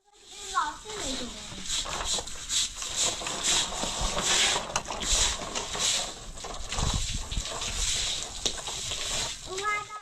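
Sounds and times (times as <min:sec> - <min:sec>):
stiff broom scrubbing wet paving: 0:00.0 - 0:10.0.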